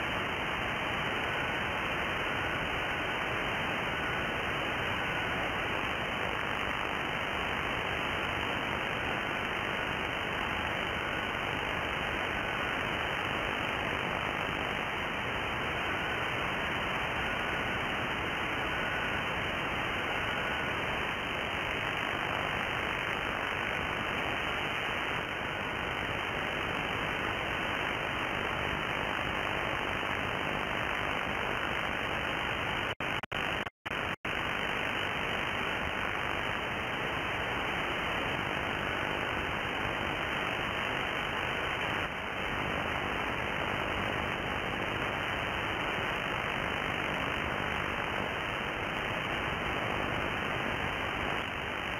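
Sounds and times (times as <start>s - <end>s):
radio receiver hiss: 0.0s - 51.9s.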